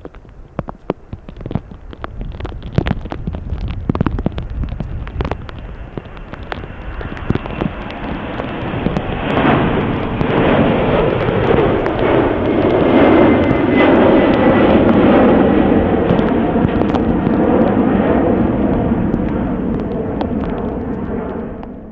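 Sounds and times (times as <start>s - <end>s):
hail ticking on microphone: 0.0s - 21.8s
jet engine rumble: 0.0s - 21.9s.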